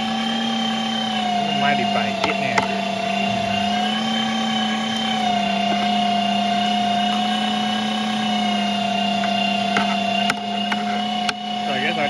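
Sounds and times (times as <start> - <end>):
electric meat grinder running: 0.0 - 12.0.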